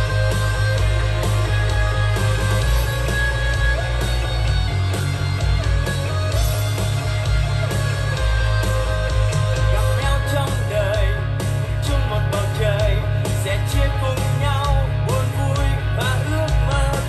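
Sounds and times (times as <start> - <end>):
instrumental rock music: 0.0 - 17.0.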